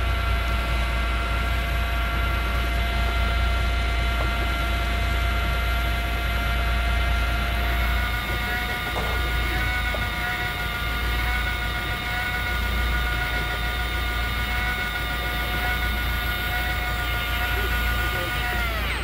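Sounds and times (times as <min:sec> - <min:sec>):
boat engine drone: 0:00.0 - 0:19.0
high motor whine: 0:00.0 - 0:19.0.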